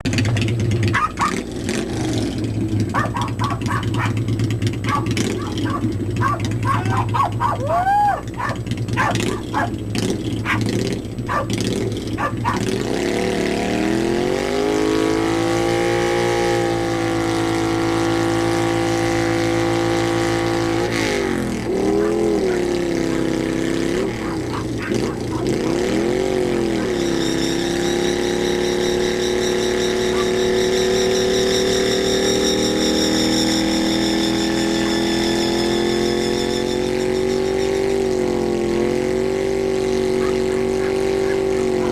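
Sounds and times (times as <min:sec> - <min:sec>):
motorcycle engine revving: 0:00.0 - 0:41.9
tire squealing: 0:00.0 - 0:41.9.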